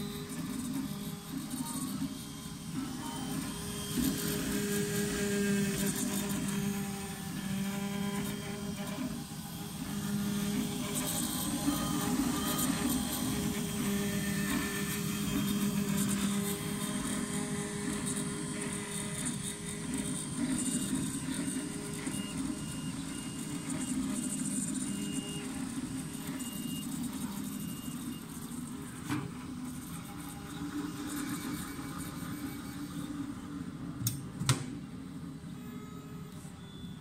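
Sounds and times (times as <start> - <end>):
stepper motor tones: 0.0 - 34.2
cooling fans whirring: 0.0 - 37.0.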